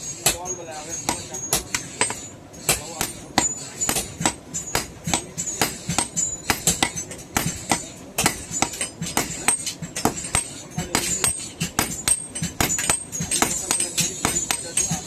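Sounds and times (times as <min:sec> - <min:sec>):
hammer blows on hot iron: 0:00.0 - 0:15.0.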